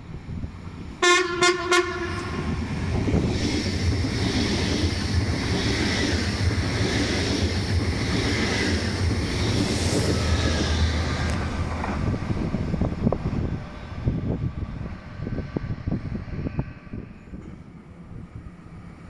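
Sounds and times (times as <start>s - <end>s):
electric locomotive passing: 0.0s - 19.0s
train wheels rumbling on rails: 0.0s - 19.0s.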